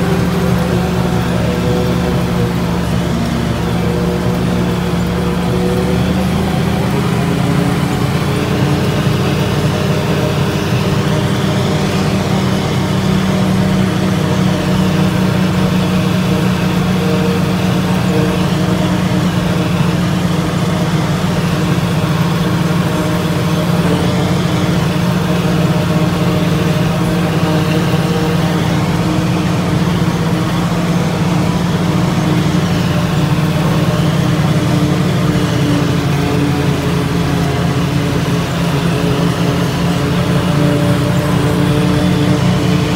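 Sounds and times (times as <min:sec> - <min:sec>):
tractor and forage harvester droning: 0:00.0 - 0:42.9.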